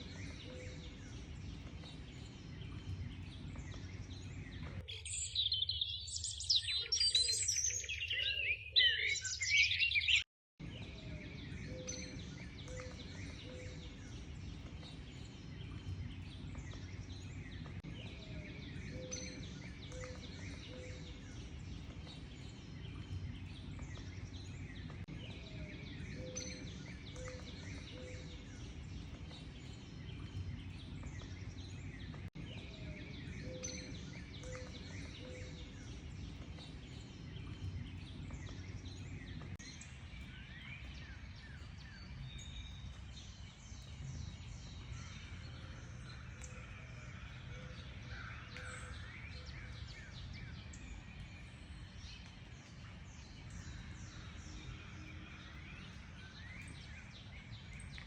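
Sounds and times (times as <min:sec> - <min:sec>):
dense birdsong with quick chirps: 0:00.0 - 0:58.0.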